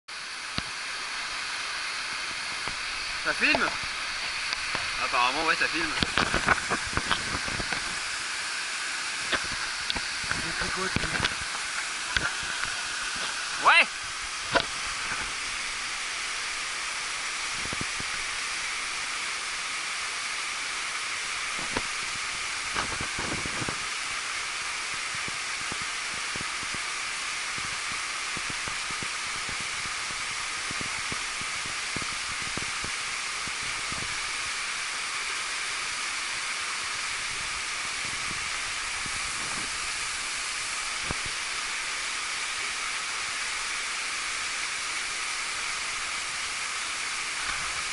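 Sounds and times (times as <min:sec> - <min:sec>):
waterfall hissing: 0:00.1 - 0:47.9.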